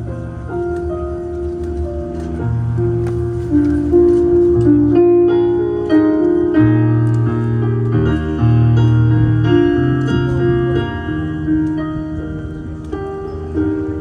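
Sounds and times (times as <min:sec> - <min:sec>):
slow gentle instrumental music: 0:00.0 - 0:14.0.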